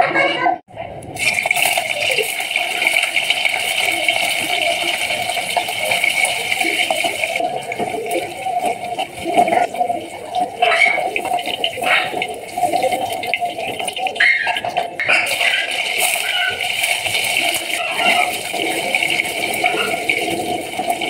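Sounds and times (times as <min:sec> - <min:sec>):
cheese cubes sizzling in oil: 0:01.2 - 0:14.1, 0:15.3 - 0:21.0.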